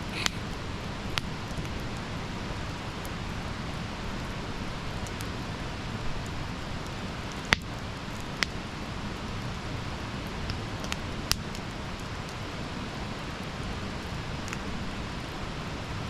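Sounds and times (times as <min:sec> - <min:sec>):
fire crackles and pops: 0:00.0 - 0:16.0
flames hissing: 0:00.0 - 0:16.0.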